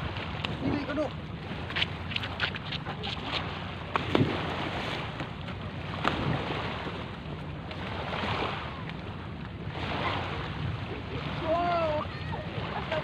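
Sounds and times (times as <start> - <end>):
sea water washing against seawall: 0.0 - 13.0.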